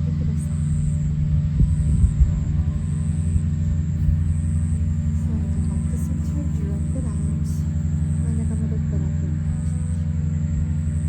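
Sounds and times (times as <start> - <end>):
ambient music with droning tones: 0.0 - 11.0.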